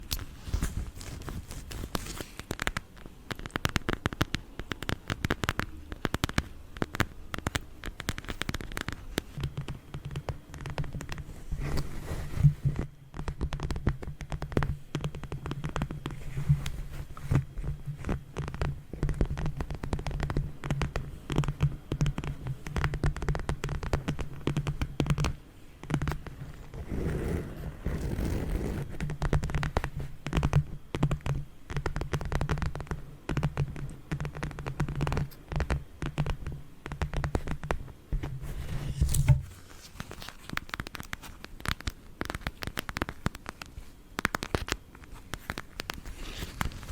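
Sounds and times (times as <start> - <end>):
fingernails tapping on a mask: 1.8 - 38.3, 40.4 - 46.9.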